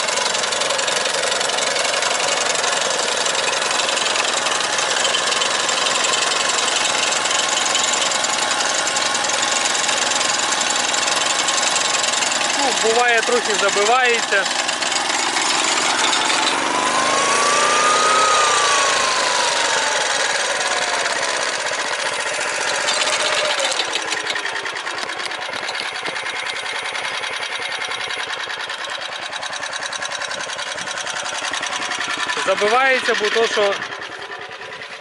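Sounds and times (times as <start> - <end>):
walk-behind tractor engine running: 0.0 - 35.0.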